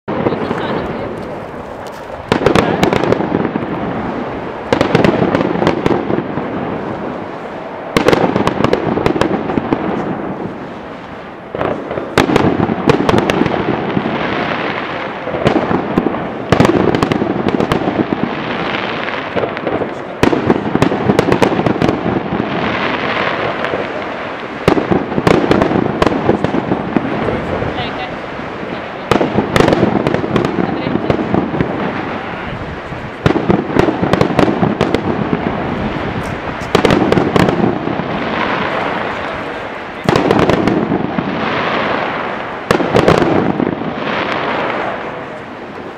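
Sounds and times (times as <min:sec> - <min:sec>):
fireworks crackling and popping: 0:00.0 - 0:45.9.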